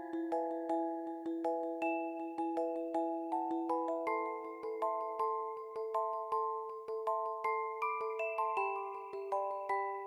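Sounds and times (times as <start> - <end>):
bell-like melody: 0.0 - 10.0.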